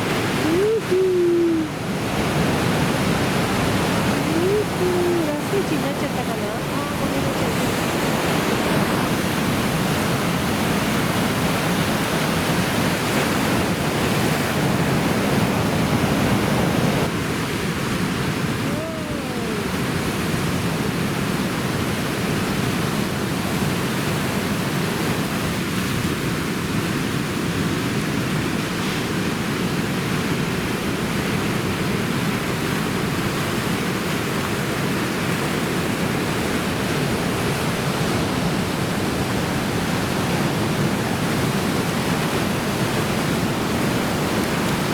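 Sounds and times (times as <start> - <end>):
breaking waves: 0.0 - 44.9
wind: 0.0 - 44.9.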